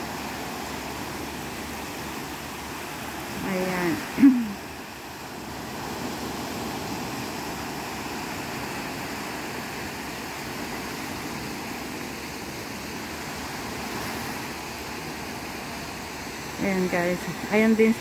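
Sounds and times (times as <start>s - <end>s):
small waves washing onto shore: 0.0s - 18.0s.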